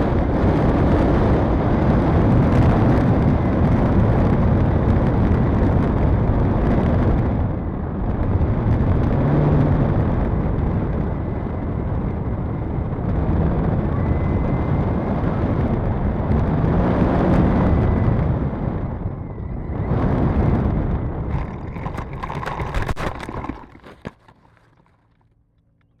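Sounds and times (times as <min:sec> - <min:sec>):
wind noise on microphone: 0:00.0 - 0:24.8.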